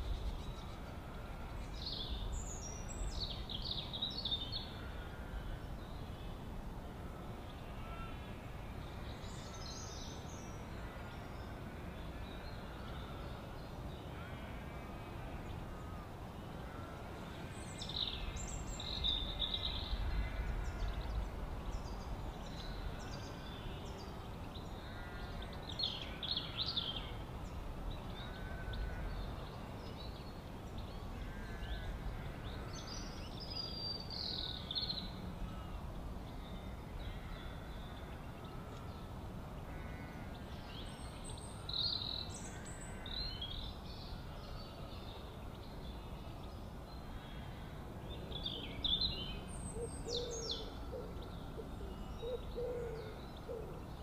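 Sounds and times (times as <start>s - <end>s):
outdoor background hiss: 0.0s - 54.0s
wild birds chirping and calling: 0.0s - 54.0s.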